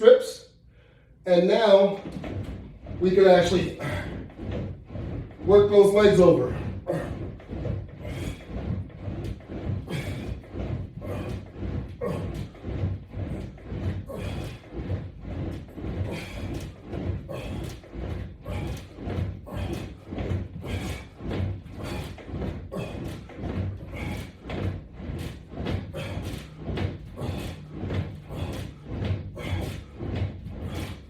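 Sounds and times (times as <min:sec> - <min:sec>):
rhythmic dull thumps: 0:00.7 - 0:31.0.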